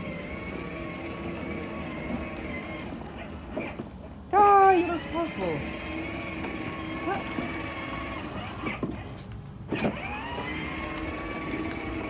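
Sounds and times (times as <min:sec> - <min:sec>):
toy electric motor whining: 0:00.0 - 0:09.1, 0:09.7 - 0:12.0.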